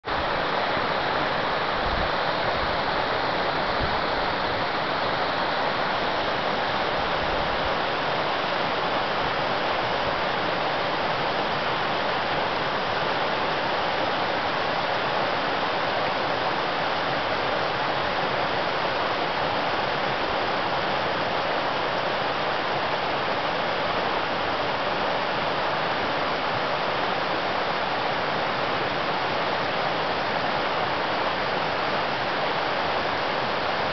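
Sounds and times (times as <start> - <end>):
stream rushing over boulders: 0.0 - 33.9.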